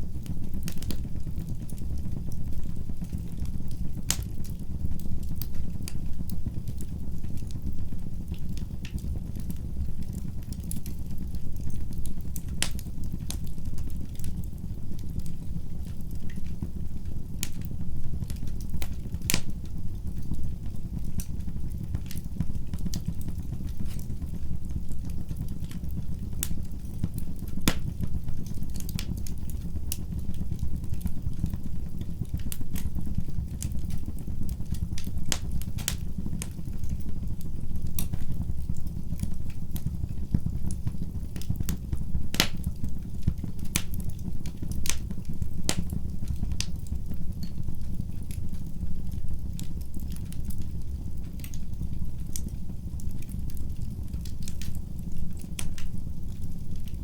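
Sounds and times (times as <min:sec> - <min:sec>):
fire flames rumbling: 0:00.0 - 0:57.0
wood crackling and popping: 0:00.0 - 0:57.0.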